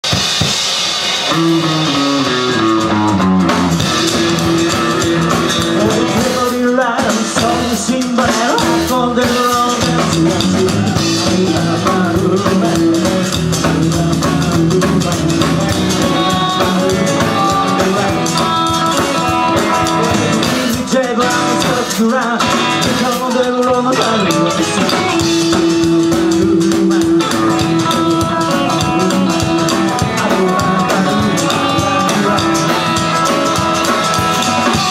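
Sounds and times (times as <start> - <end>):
rock and roll band playing: 0.0 - 34.9.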